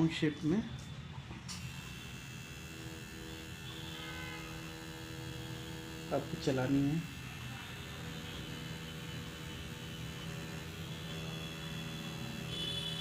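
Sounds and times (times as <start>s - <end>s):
tattoo machine humming: 1.4s - 13.0s.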